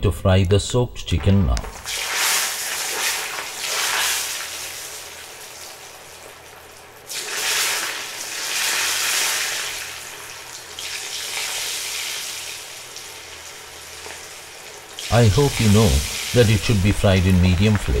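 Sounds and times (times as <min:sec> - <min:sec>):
chicken deep-frying in hot oil: 0:01.6 - 0:18.0.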